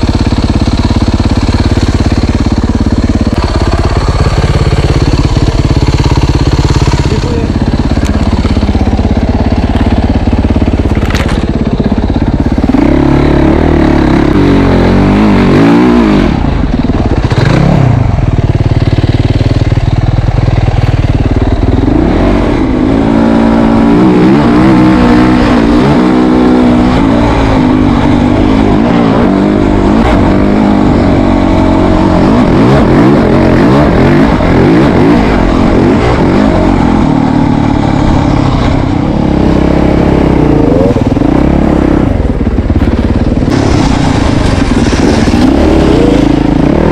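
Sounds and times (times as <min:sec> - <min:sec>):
engine revving: 0:00.0 - 0:19.3, 0:21.3 - 0:46.9.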